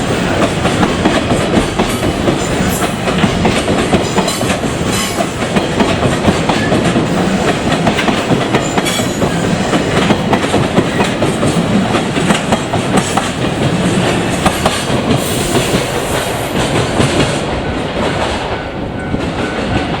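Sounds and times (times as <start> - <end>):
train wheels clacking over rail joints: 0.0 - 20.0.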